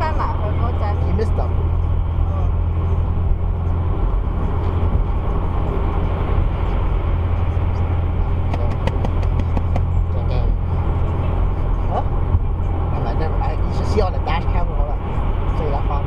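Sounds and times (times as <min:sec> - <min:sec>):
car cabin road and engine drone: 0:00.0 - 0:16.0.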